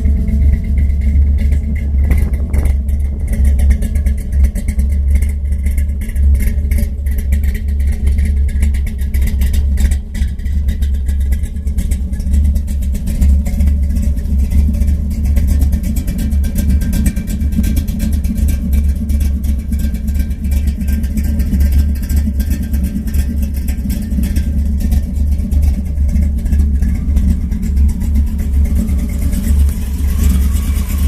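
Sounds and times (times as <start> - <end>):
car engine exhaust pulsing: 0.0 - 31.0.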